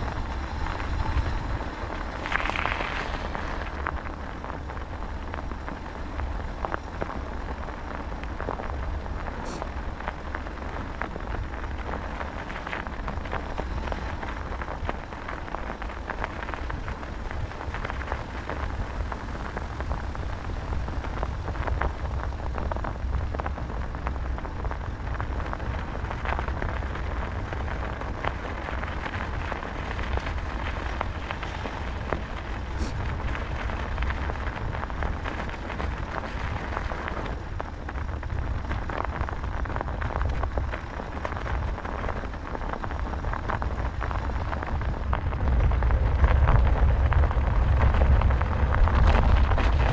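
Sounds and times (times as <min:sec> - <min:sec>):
bike tyres rolling on rough track: 0:00.0 - 0:49.9
wind buffeting microphone: 0:00.0 - 0:49.9.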